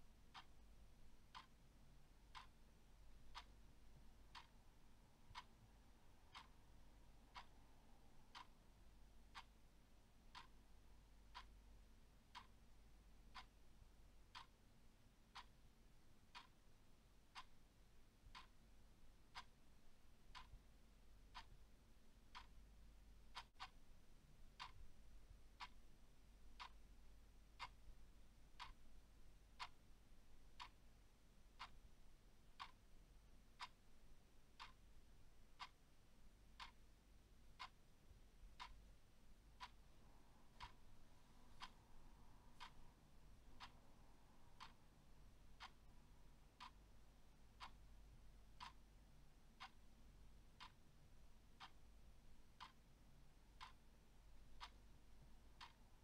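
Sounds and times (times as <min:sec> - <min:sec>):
clock ticking faintly: 0:00.0 - 0:56.0.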